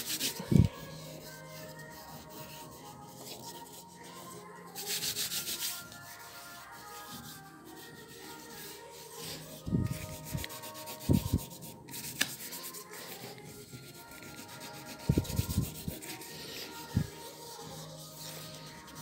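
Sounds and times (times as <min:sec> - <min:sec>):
charcoal scratching on surface: 0:00.0 - 0:19.0.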